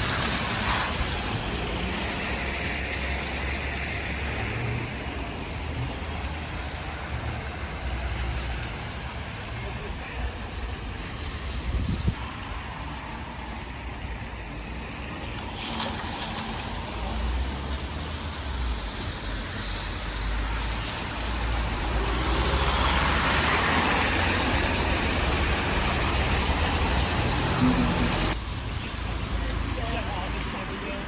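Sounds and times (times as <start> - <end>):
vehicle engine rumble: 0.0 - 31.0.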